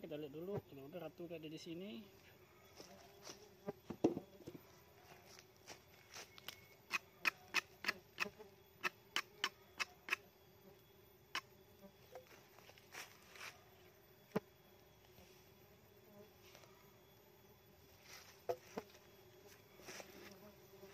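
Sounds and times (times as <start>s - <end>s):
faint buzz of bees: 0.0s - 20.9s.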